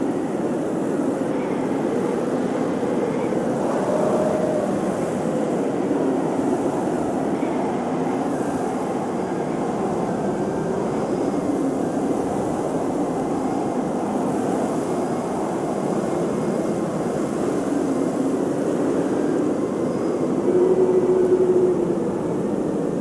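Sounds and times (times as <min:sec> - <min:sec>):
blizzard wind roaring: 0:00.0 - 0:23.0.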